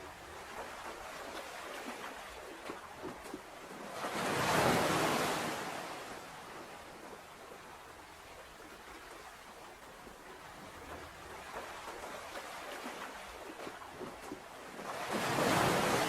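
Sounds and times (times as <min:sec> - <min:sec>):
sea waves lapping and splashing: 0:00.0 - 0:16.0.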